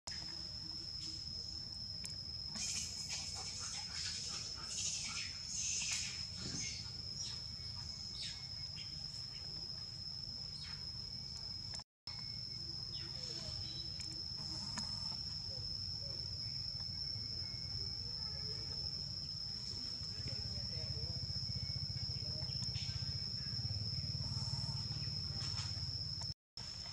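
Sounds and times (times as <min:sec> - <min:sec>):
high-pitched insect drone: 0:00.1 - 0:26.9.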